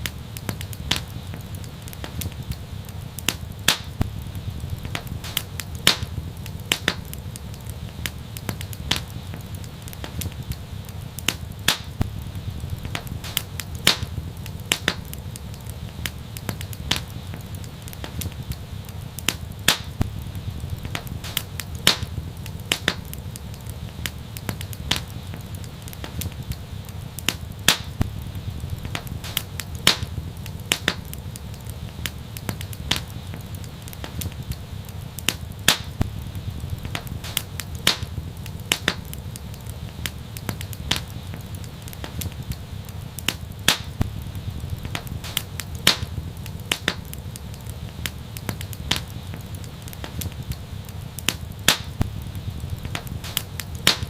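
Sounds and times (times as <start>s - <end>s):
fire crackling: 0.0s - 54.0s
steady low rumble: 0.0s - 54.0s.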